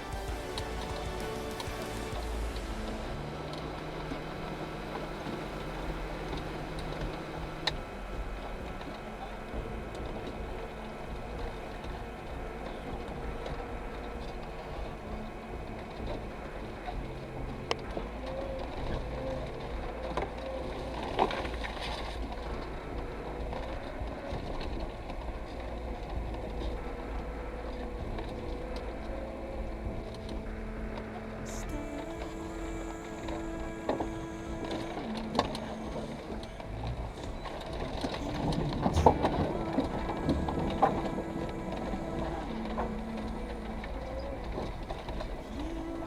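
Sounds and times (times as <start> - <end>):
car engine and drivetrain noise: 0.0 - 46.0
wavering whine: 0.0 - 46.0.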